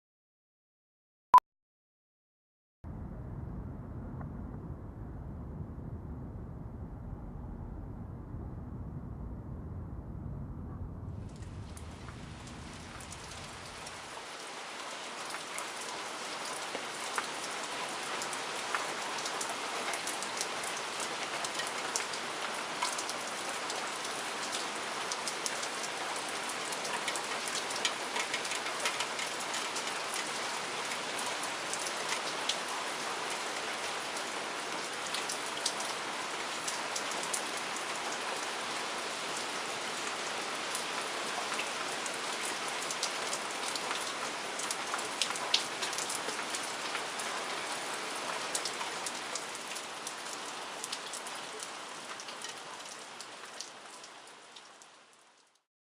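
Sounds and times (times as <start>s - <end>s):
steady rain falling: 2.9s - 55.7s.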